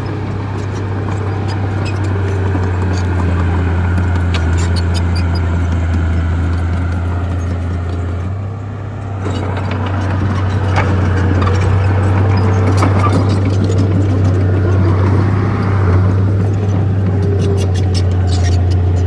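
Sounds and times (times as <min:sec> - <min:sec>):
steel tracks clanking and squeaking: 0:00.0 - 0:08.3, 0:09.2 - 0:19.0
diesel engine droning: 0:00.0 - 0:19.0.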